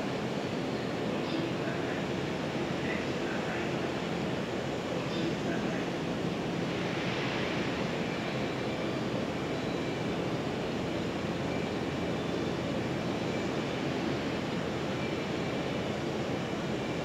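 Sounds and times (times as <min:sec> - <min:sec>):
distant electric train rumble: 0:00.0 - 0:17.0.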